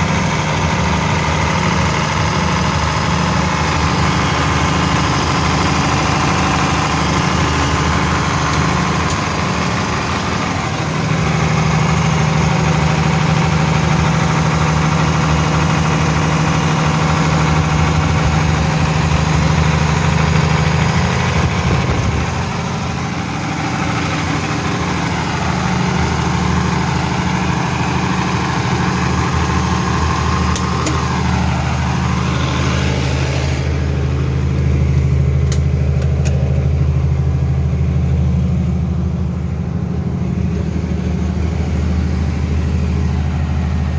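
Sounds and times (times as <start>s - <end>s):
generator engine running: 0.0s - 43.9s.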